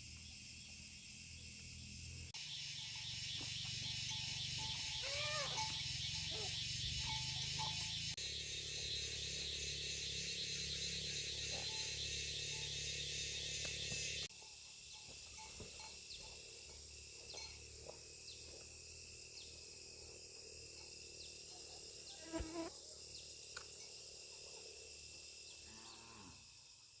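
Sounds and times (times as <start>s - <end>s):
insects chirring: 0.0s - 27.0s
short insect chirps: 0.0s - 27.0s.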